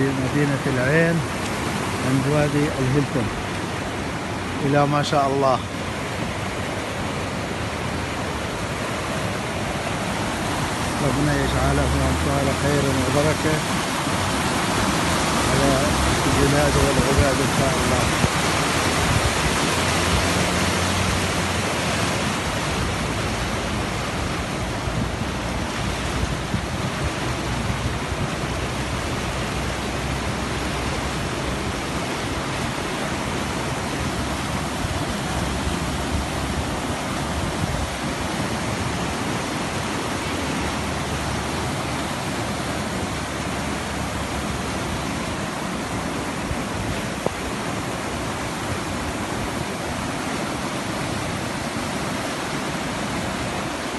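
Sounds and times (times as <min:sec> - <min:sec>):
floodwater rushing: 0:00.0 - 0:53.9.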